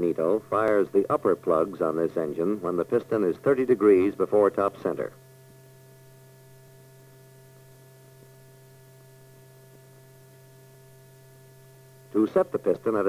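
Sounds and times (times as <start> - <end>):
faint steady tones: 0.0 - 13.0
low electrical hum: 0.0 - 13.0.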